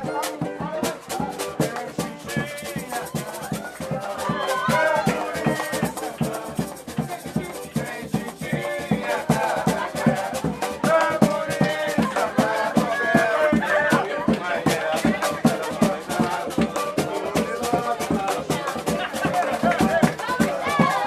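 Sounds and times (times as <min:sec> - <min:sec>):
samba drums and shakers: 0:00.0 - 0:21.0
voices singing: 0:00.0 - 0:21.0.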